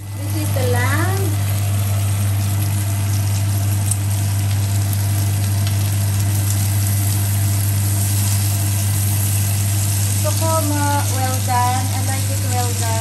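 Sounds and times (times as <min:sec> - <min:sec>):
meat sizzling in a skillet: 0:00.0 - 0:13.0
steady low hum: 0:00.0 - 0:13.0.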